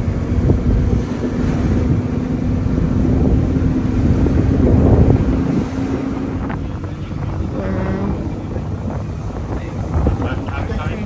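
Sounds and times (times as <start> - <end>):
truck engine humming: 0.0 - 11.0
wind buffeting microphone: 0.0 - 11.0.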